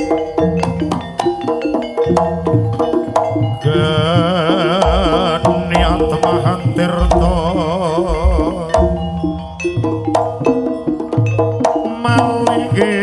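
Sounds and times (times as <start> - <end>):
hand drum strokes: 0.0 - 13.0
struck metal notes: 0.0 - 13.0.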